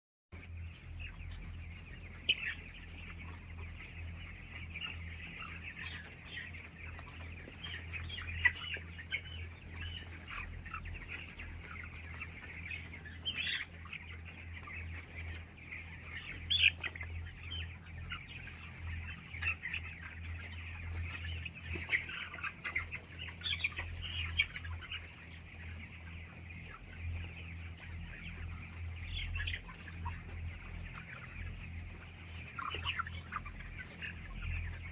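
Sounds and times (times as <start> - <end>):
chickens calling: 0.4 - 34.9
chicken squawks: 0.8 - 34.9.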